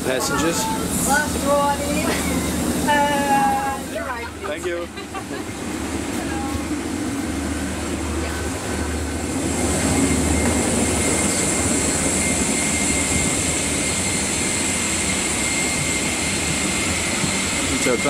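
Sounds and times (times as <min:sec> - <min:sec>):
thin steady whine: 0:00.0 - 0:18.0.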